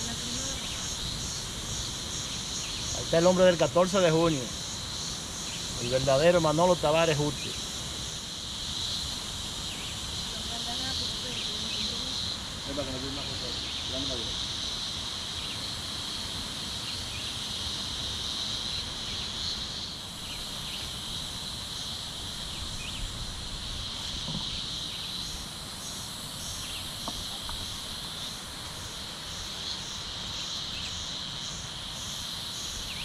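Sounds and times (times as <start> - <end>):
insect calling in short pulses: 0.0 - 33.0
insect high-pitched drone: 0.0 - 33.0.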